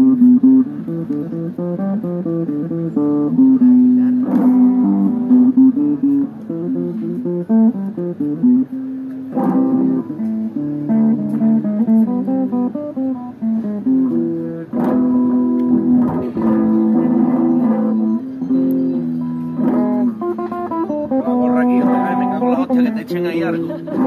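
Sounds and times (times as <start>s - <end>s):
plucked guitar notes: 0.0s - 24.0s
strummed guitar chords: 0.0s - 24.0s.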